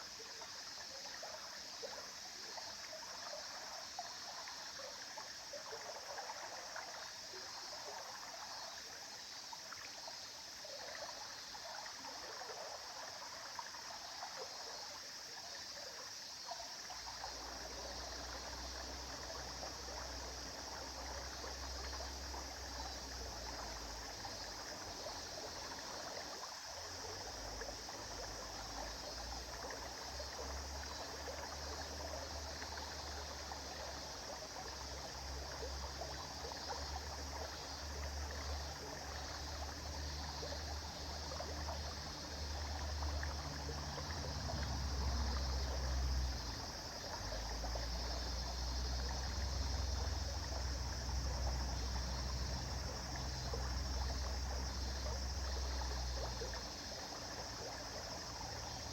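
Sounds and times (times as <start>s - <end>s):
river flowing over stones: 0.0s - 58.9s.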